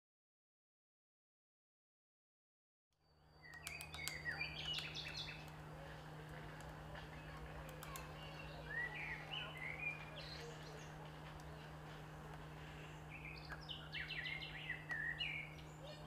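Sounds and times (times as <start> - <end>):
songbird chirping: 3.0 - 16.0
steady low hum: 3.0 - 16.0.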